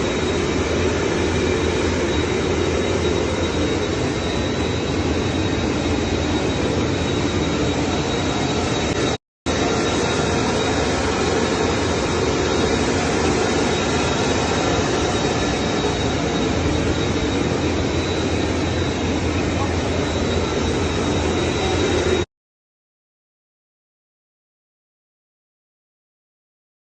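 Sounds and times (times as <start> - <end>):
high steady whine: 0.0 - 22.3
jet aircraft rushing: 0.0 - 22.3.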